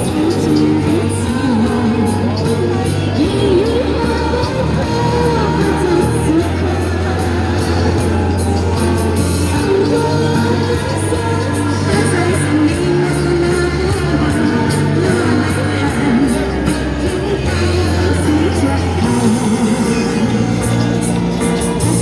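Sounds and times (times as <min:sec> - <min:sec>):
backing track with bass line: 0:00.0 - 0:22.0
person singing pop song: 0:00.0 - 0:22.0.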